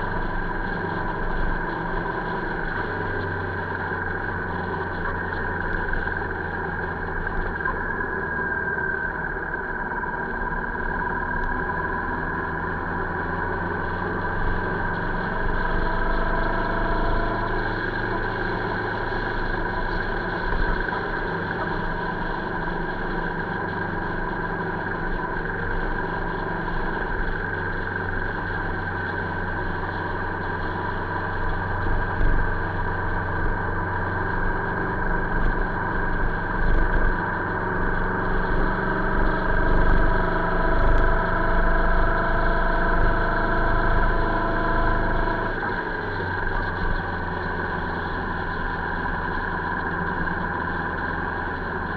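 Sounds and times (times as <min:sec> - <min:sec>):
motorcycle engine running: 0:00.0 - 0:51.9
wind and road noise: 0:00.0 - 0:51.9.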